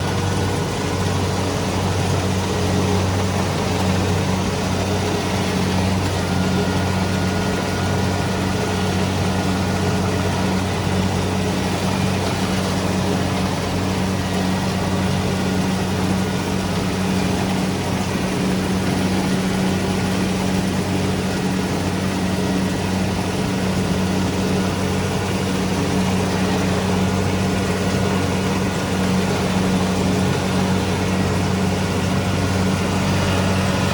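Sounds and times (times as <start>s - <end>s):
diesel engine humming: 0.0s - 33.9s
machinery clatter: 0.0s - 33.9s.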